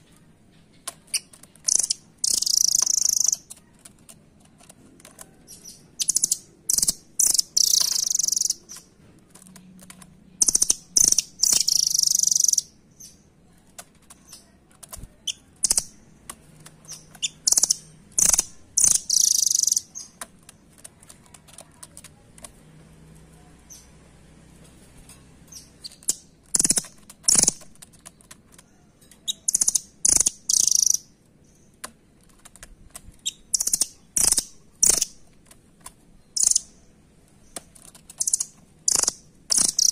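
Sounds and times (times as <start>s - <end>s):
sharp ticking clicks: 0.1s - 22.6s, 25.5s - 39.9s.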